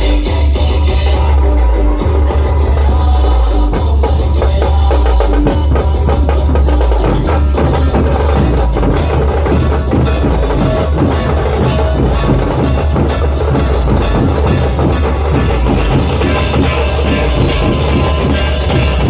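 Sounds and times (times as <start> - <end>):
loud music through sound system: 0.0 - 19.0.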